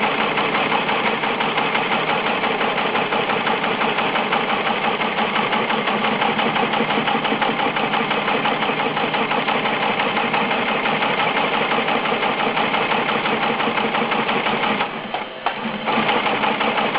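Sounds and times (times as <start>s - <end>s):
broom machine clattering: 0.0s - 16.9s.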